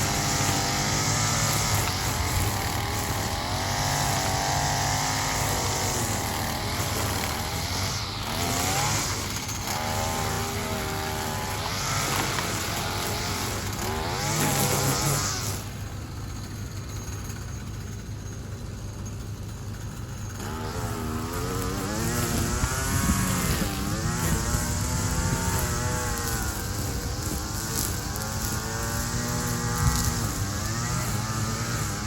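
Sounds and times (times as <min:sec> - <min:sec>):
string trimmer engine revving: 0:00.0 - 0:17.2, 0:19.9 - 0:32.0.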